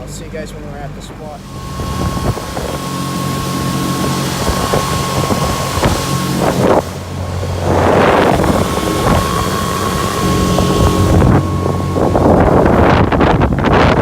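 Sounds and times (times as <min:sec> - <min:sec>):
motorboat engine running: 0:00.0 - 0:14.0
water rushing past hull: 0:00.0 - 0:14.0
wind buffeting microphone: 0:01.2 - 0:14.0.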